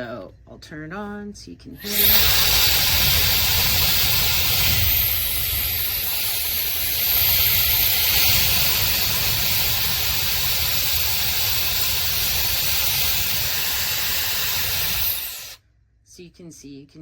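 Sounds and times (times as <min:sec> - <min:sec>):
hair dryer blowing air: 0:01.8 - 0:15.6.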